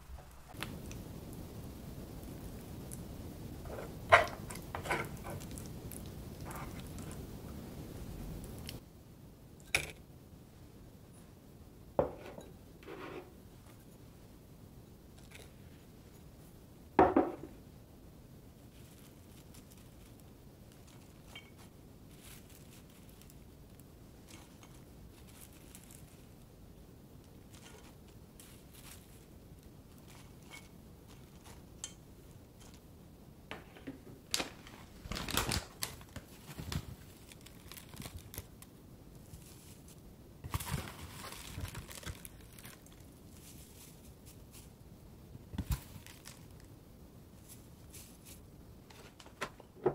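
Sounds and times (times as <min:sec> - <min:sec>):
soft rustling and crinkling: 0:00.0 - 0:08.8, 0:15.0 - 0:16.6, 0:18.4 - 0:49.9.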